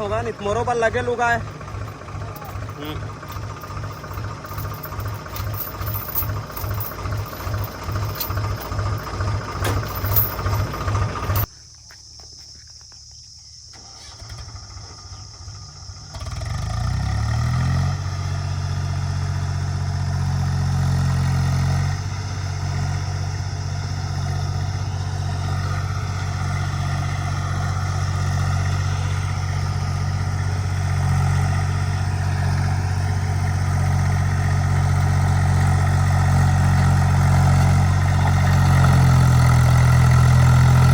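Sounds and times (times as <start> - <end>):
tractor diesel engine chugging: 0.0 - 11.5, 18.0 - 40.9.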